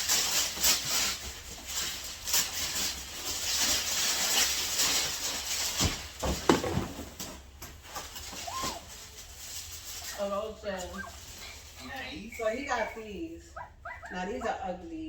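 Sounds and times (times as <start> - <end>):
paper rustling and tearing: 0.0 - 12.9.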